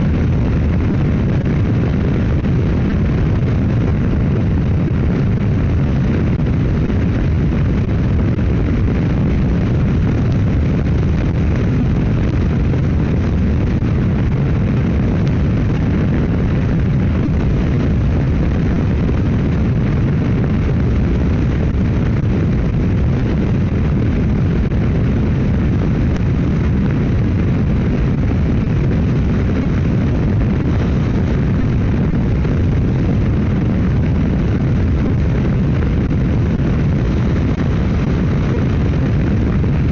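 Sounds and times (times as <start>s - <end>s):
motorcycle engine and road noise: 0.0s - 39.9s
wind buffeting microphone: 0.0s - 39.9s.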